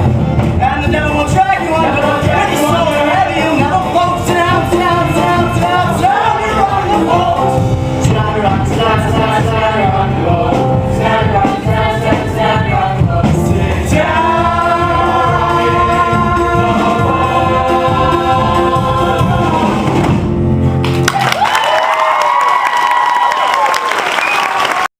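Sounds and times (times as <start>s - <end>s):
chorus singing show tune: 0.0s - 20.2s
instrumental backing: 0.0s - 21.1s.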